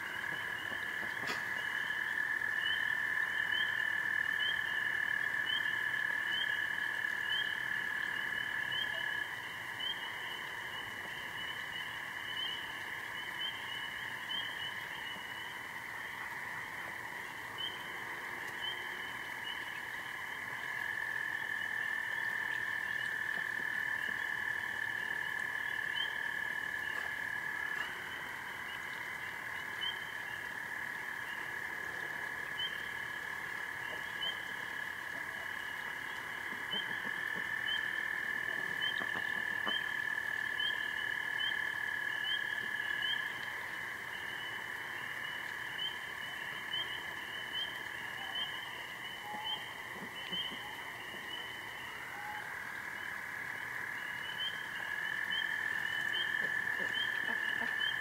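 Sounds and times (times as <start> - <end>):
frogs peeping: 0.0 - 58.0.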